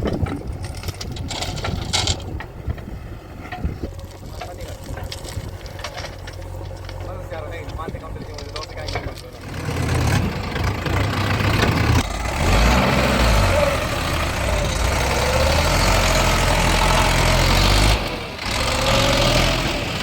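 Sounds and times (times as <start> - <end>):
heavy diesel engine running: 0.1 - 20.0.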